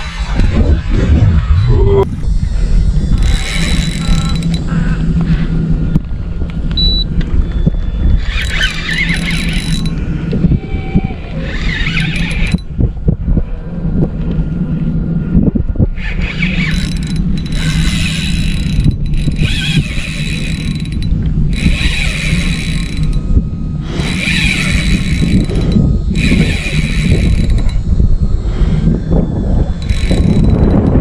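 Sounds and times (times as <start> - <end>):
steady low rumble: 0.0 - 31.0
fishing reel buzzing: 1.6 - 12.8, 15.9 - 31.0.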